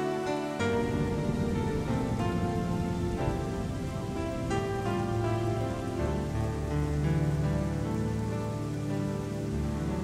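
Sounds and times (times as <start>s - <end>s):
piano playing slow chords: 0.0s - 10.0s
rain pattering: 0.0s - 10.0s.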